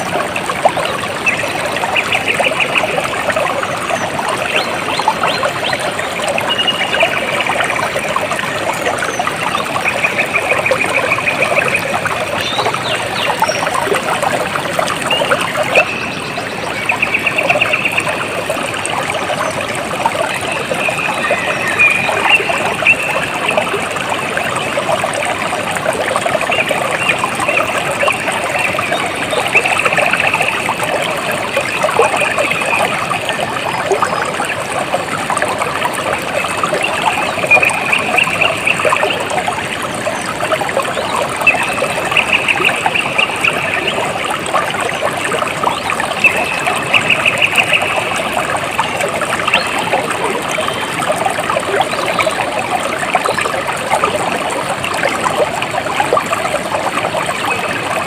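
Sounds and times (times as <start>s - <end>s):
stream trickling and babbling: 0.0s - 58.0s.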